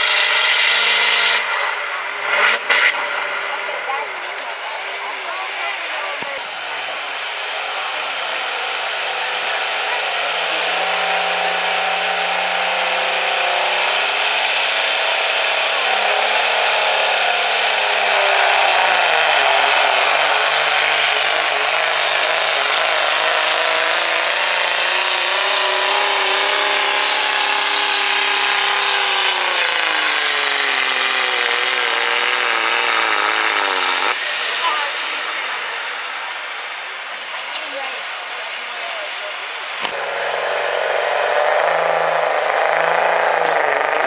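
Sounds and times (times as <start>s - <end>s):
diesel truck engine at full throttle: 0.0s - 44.0s.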